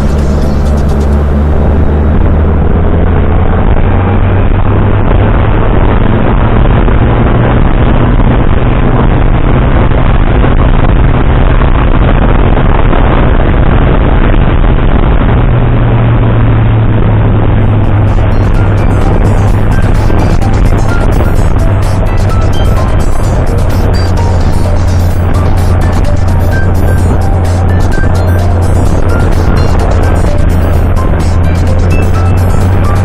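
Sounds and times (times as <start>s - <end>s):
motorcycle engine drone: 0.0s - 33.0s
wind and road noise: 0.0s - 33.0s.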